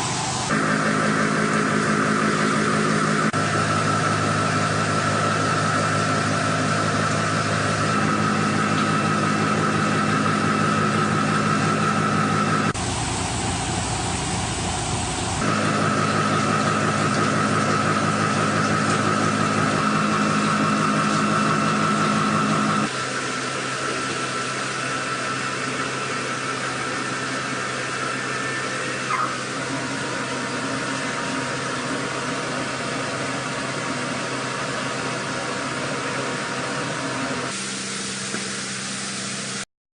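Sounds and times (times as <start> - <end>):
machine hum with whine: 0.0 - 39.7.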